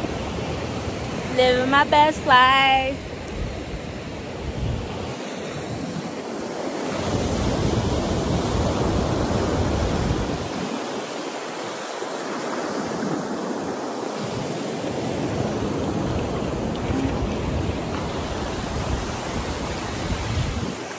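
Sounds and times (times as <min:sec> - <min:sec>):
ocean surf breaking on sand: 0:00.0 - 0:20.9.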